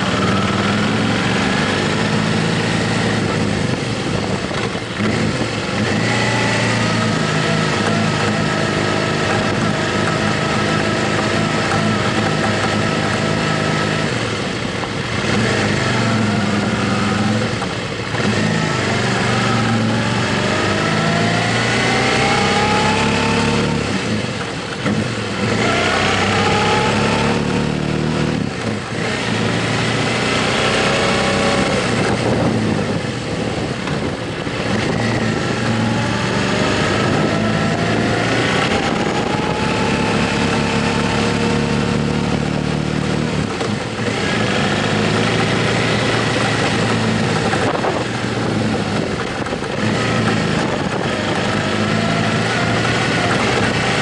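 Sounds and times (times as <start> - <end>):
motorcycle engine shifting gears: 0.0 - 54.0
road and wind noise: 0.0 - 54.0.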